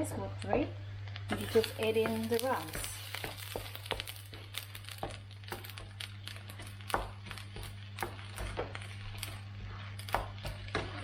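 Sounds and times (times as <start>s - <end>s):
utensil scraping in frying pan: 1.2s - 11.0s.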